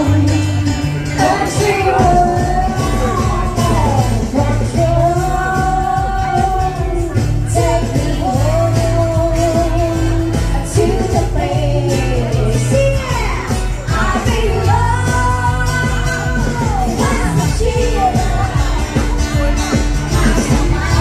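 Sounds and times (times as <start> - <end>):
pop song with sung vocal: 0.0 - 21.0.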